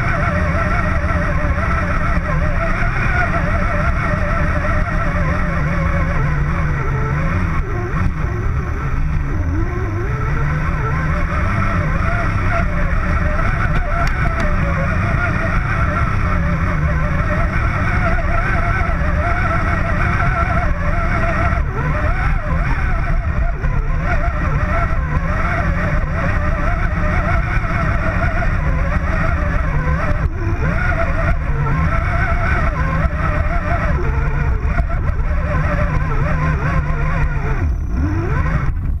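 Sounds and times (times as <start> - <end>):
heavy low rumble: 0.0 - 39.0
toy truck motor whining: 0.0 - 39.0.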